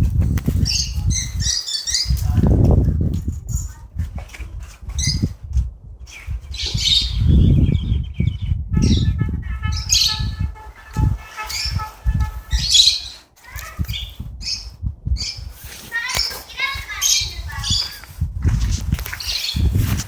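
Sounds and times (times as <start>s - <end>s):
birds chirping: 0.4s - 3.0s, 4.9s - 5.3s, 6.1s - 20.0s.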